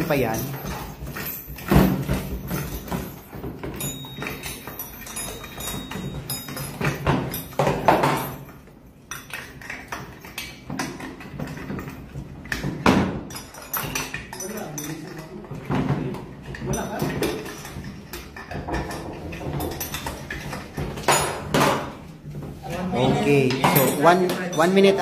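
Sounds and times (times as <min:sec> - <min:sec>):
metal nuts and tools clinking: 0:00.0 - 0:22.1, 0:23.5 - 0:25.0.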